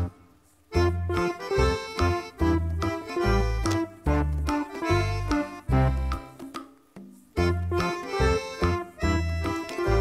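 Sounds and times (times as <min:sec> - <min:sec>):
cheerful instrumental music: 0:00.0 - 0:10.0.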